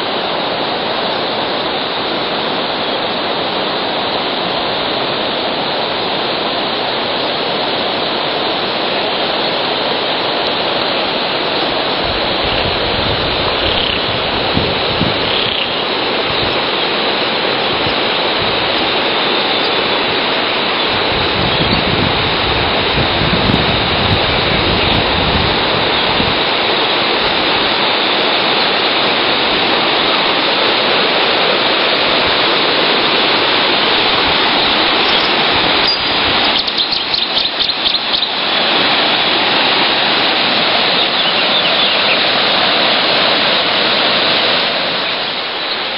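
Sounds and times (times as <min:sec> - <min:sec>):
water rushing over weir: 0:00.0 - 0:45.9.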